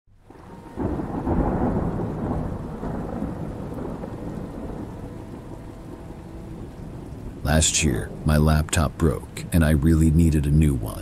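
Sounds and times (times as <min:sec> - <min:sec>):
steady rain: 0:00.1 - 0:11.0
thunder rumbling: 0:00.2 - 0:11.0.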